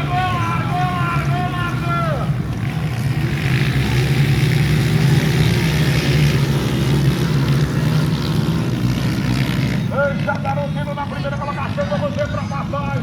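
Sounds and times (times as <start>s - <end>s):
dirt bike engines droning: 0.0s - 13.0s.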